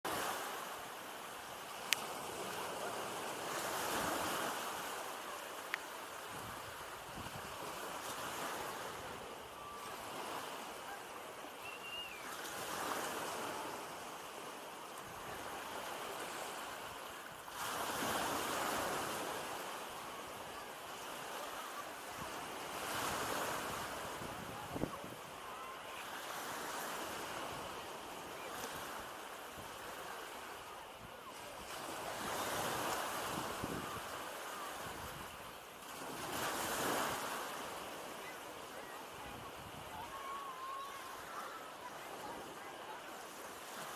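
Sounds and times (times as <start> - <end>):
waves breaking on a beach: 0.1 - 43.9.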